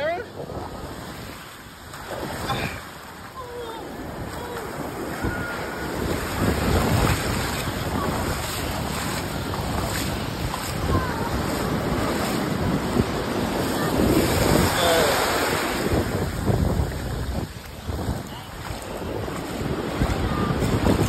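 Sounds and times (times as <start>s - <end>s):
ocean surf washing over sand: 0.0s - 21.0s
wind buffeting microphone: 0.0s - 21.0s.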